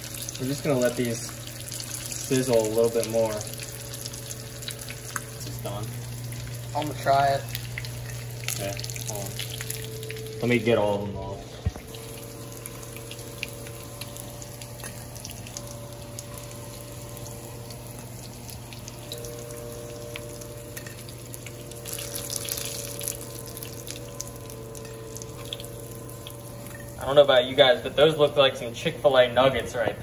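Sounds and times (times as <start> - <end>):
fish frying in hot oil: 0.0 - 29.8
steady low hum: 0.0 - 30.0.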